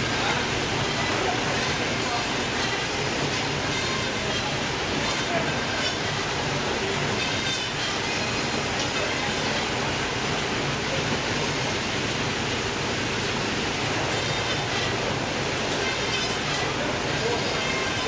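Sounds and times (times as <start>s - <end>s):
steady rushing water noise: 0.0s - 18.0s.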